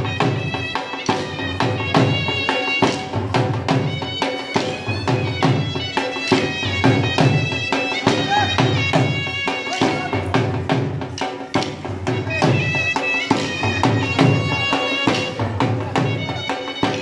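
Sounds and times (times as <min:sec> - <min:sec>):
drum beating steady rhythm: 0:00.0 - 0:17.0
wind instrument folk melody: 0:00.0 - 0:17.0.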